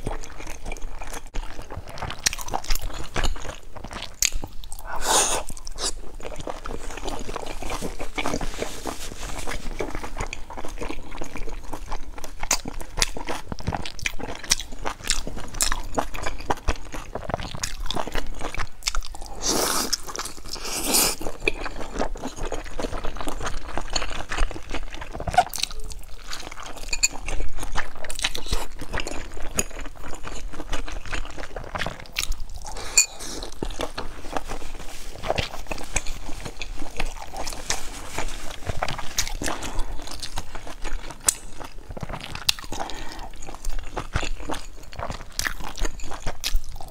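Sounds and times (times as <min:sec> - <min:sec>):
person chewing a bun: 0:00.0 - 0:46.9.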